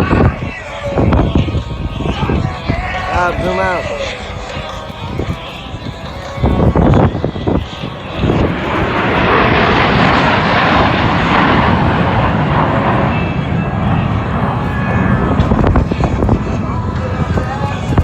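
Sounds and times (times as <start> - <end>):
jet fighters flying past: 0.0 - 18.0.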